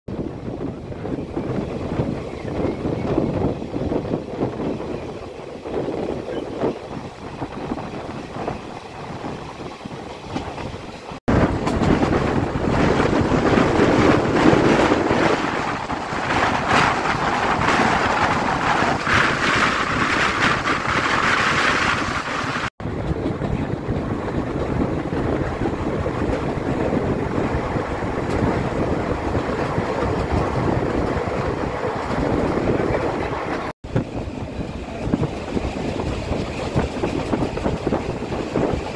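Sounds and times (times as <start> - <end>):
train running on track: 0.1 - 38.9
wind buffeting microphone: 0.1 - 38.9.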